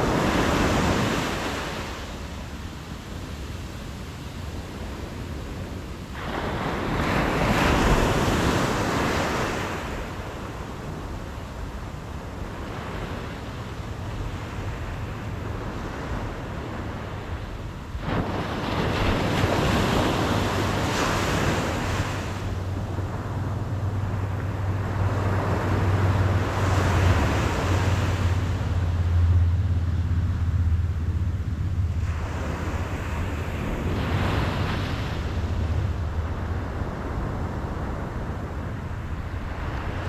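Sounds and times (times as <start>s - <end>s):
waves breaking on beach: 0.0s - 40.0s
wind rumbling on microphone: 0.0s - 40.0s.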